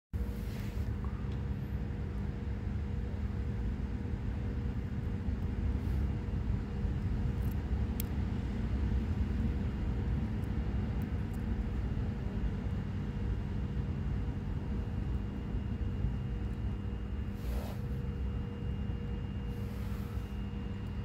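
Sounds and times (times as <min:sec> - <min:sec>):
faint hum: 0:00.2 - 0:21.0
low mechanical rumble: 0:00.2 - 0:21.0.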